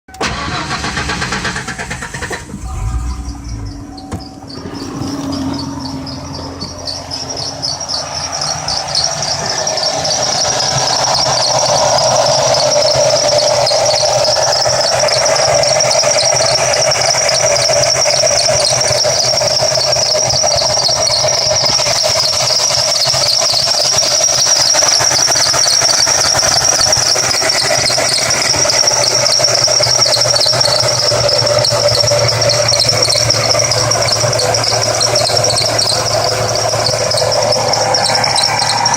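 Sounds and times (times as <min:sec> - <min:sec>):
car engine running: 0:00.1 - 0:38.9
engine belt squealing: 0:00.1 - 0:38.9.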